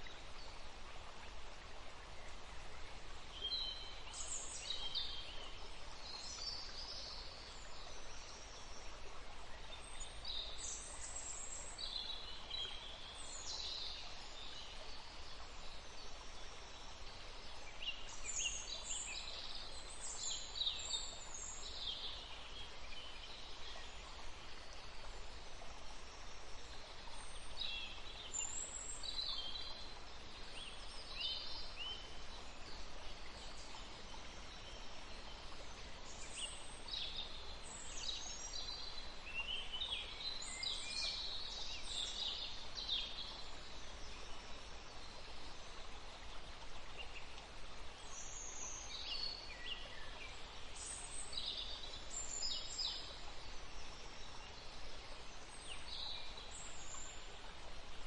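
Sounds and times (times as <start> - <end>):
forest birds chirping: 0.0 - 58.0
steady background hiss: 0.0 - 58.0.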